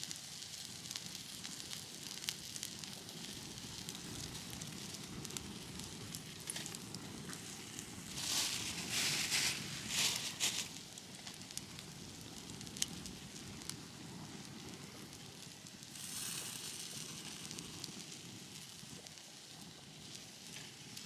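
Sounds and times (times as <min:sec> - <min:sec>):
fire hissing: 0:00.0 - 0:21.0
wood fire crackling and popping: 0:00.0 - 0:21.0.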